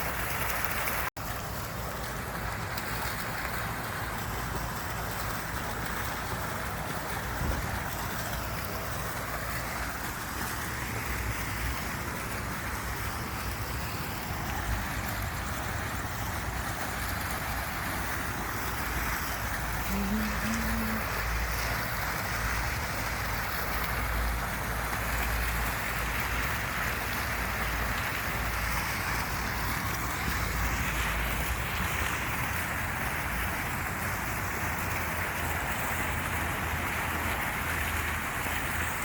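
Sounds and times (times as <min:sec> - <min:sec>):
white noise hiss: 0:00.0 - 0:39.0.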